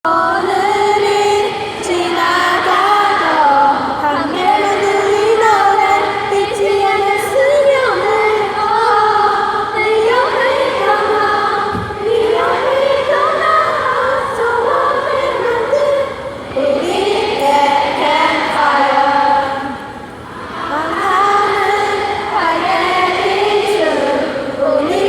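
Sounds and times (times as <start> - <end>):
crowd singing in unison: 0.0 - 25.0.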